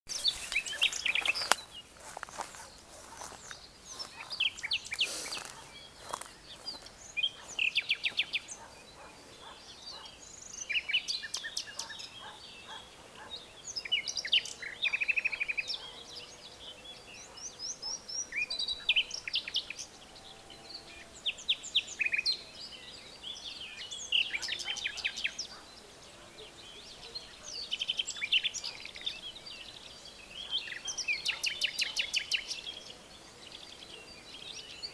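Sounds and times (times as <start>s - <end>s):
birds chirping and trilling: 0.1s - 34.9s
faint outdoor hiss: 0.1s - 34.9s.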